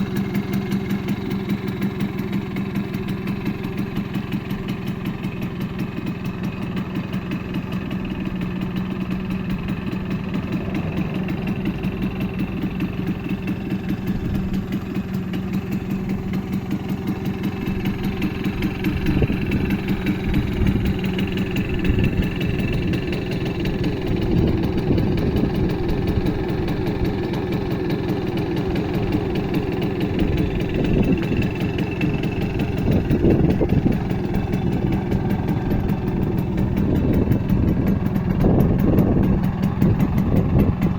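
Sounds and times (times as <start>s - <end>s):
moped engine idling: 0.0s - 40.9s.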